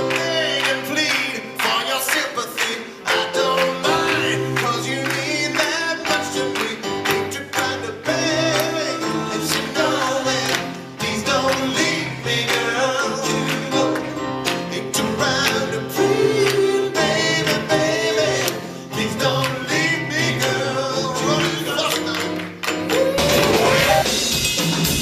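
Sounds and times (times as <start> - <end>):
live pop band with singing: 0.0 - 25.0.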